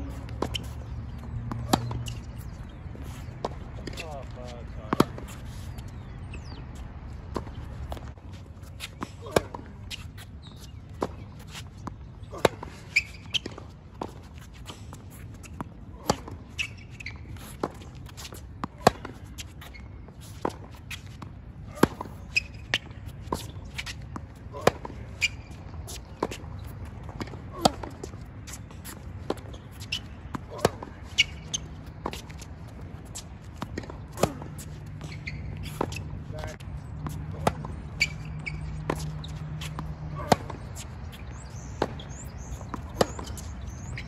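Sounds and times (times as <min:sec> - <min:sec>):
racket hitting tennis ball: 0:00.0 - 0:04.2, 0:04.9 - 0:05.5, 0:08.8 - 0:10.2, 0:11.0 - 0:19.6, 0:20.2 - 0:44.0
shoes squeaking on court: 0:00.0 - 0:44.0.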